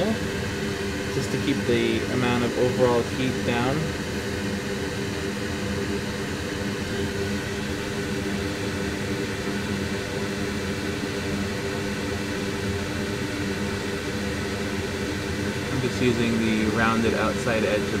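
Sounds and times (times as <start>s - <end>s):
fan whirring: 0.0s - 18.0s.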